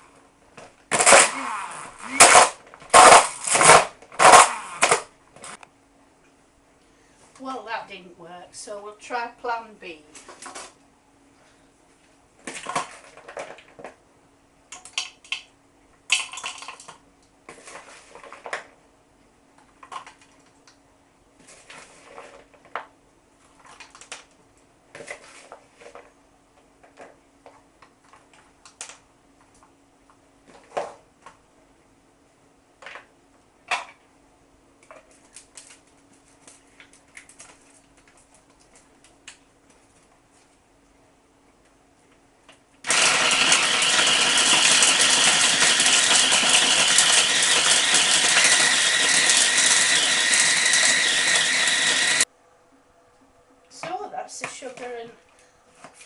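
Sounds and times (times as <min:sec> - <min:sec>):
faint steady hum: 0:00.0 - 0:42.9, 0:52.2 - 0:56.0.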